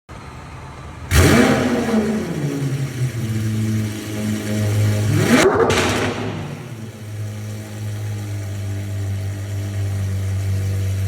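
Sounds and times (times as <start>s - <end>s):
car engine cold-starting and idling: 0.2s - 11.0s
engine revving: 1.1s - 11.0s.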